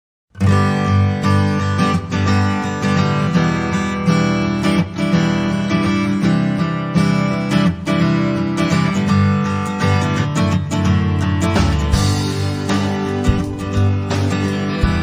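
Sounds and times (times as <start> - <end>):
acoustic guitar strumming chords: 0.3 - 15.0.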